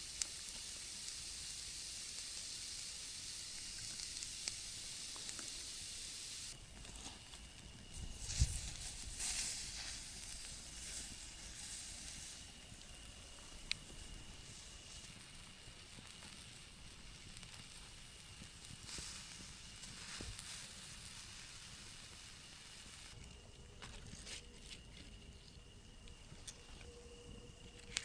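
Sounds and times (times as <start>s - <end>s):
loud sizzling hiss: 0.0s - 23.2s
campfire hissing and crackling: 0.0s - 28.0s.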